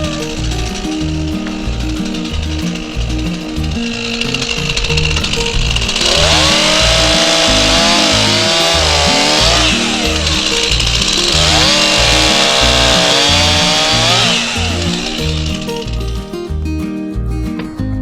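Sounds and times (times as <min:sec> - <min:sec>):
chainsaw cutting logs: 0:00.0 - 0:16.3
background music with beat: 0:00.0 - 0:18.0.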